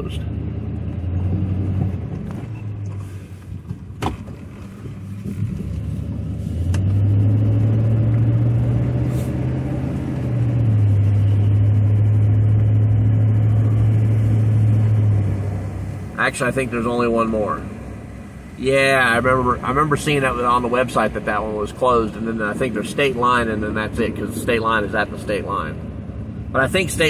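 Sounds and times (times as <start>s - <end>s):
pickup engine idling and accelerating: 0.0s - 27.0s.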